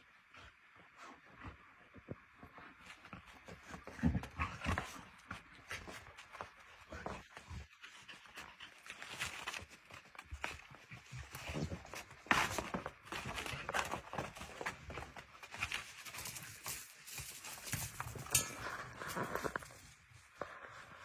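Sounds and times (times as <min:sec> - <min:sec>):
puppy scuffling and pattering: 0:01.9 - 0:21.0.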